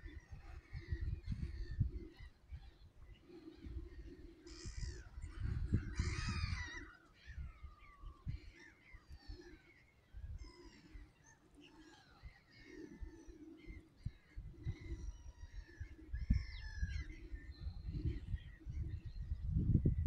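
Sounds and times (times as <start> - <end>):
gulls calling: 0.0 - 19.5.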